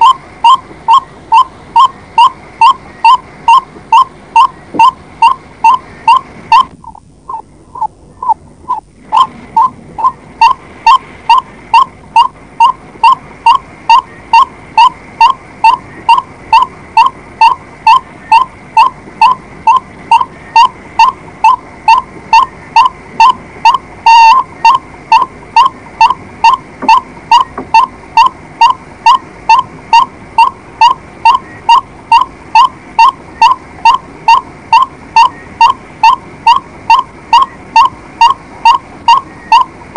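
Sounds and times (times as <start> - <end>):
bird calling short notes: 0.0 - 39.8.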